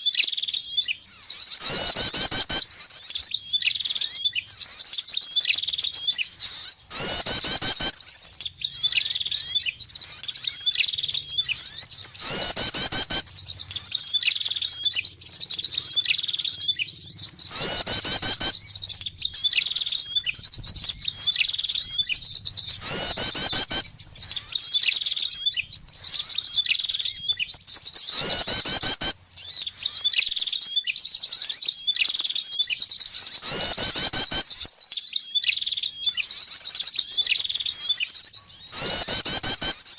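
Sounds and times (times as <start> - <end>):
downward-sweeping bird call: 0.0 - 39.9
songbirds chirping and twittering: 0.0 - 39.9.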